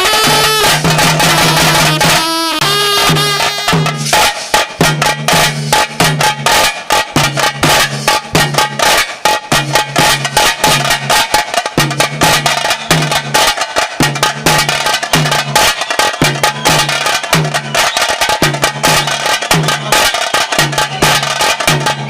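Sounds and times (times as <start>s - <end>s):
drums beaten rapidly with sticks: 0.0s - 22.0s
low repeating drum beat: 0.0s - 22.0s.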